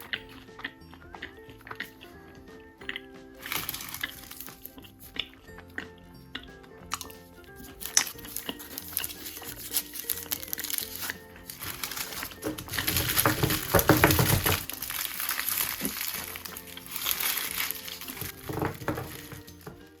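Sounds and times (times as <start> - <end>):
background music: 0.0 - 20.0
candy wrappers crinkling: 2.8 - 5.8, 6.4 - 20.0.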